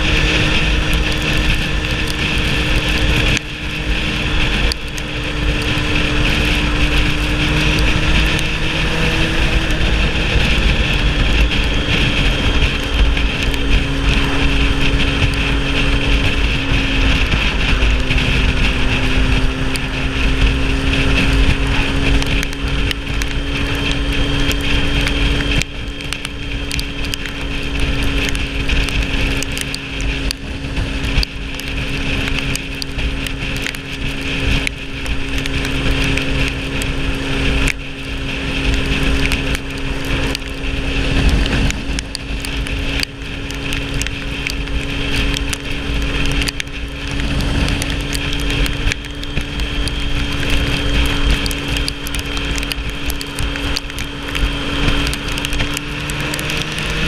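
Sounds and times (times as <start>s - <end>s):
motorcycle engine running: 0.0s - 57.0s
wind rumble on microphone: 0.0s - 57.0s.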